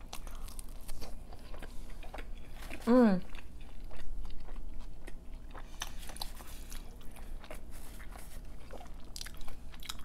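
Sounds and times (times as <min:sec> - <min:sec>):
wet chewing: 0:00.0 - 0:10.0.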